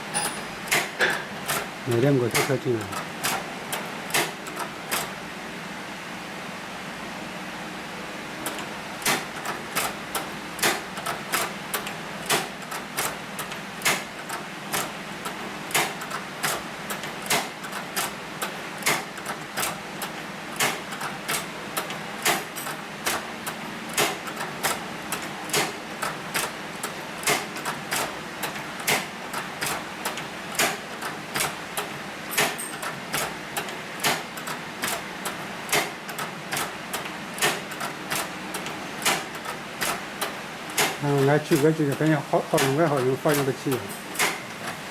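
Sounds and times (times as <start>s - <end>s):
hand-crank sewing machine stitching: 0.2s - 5.2s, 8.4s - 44.8s
sewing machine clicks: 8.4s - 44.8s.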